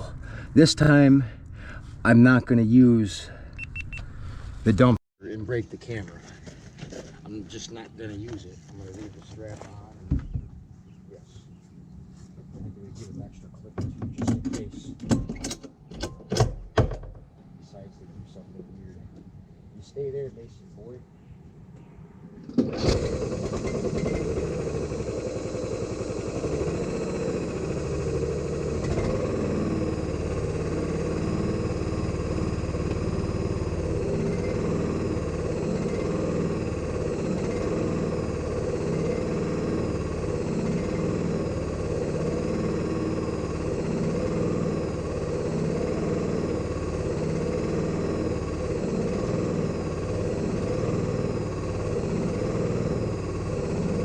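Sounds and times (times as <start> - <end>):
vehicle engine running: 0.0 - 15.0, 22.7 - 54.0.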